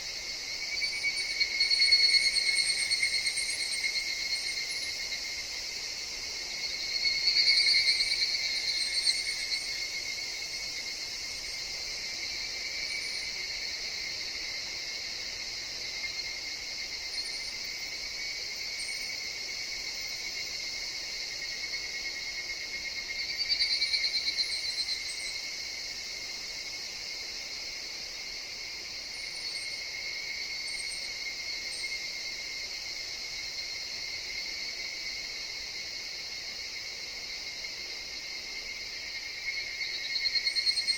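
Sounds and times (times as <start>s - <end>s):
cicadas chorus: 0.0s - 40.9s
nearby cicada calling loud: 0.0s - 40.9s.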